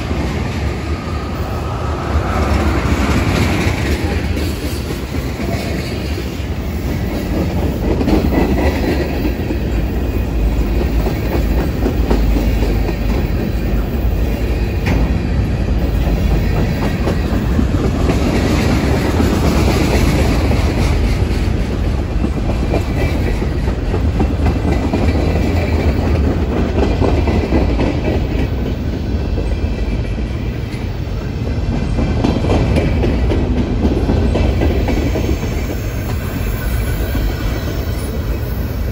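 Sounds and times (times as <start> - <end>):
steel wheels rumbling on rails: 0.0 - 38.9.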